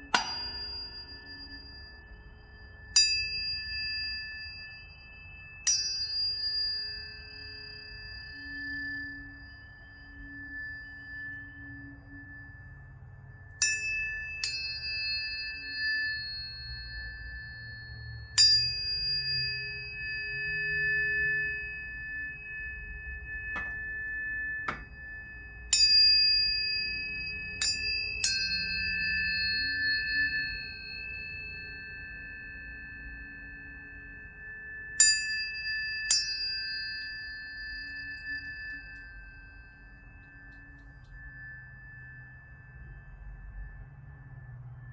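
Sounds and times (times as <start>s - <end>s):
tuning forks ringing: 0.0s - 44.9s.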